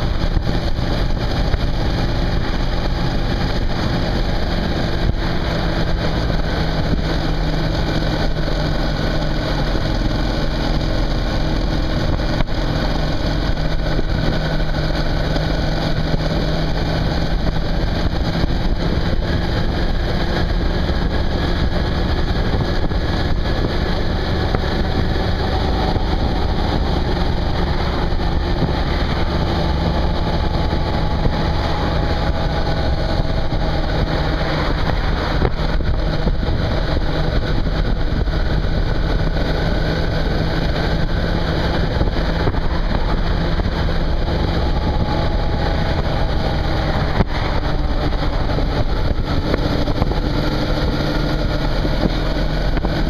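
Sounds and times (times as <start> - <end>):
motorcycle engine cruising: 0.0 - 53.0
road noise: 0.0 - 53.0
wind noise: 0.0 - 53.0.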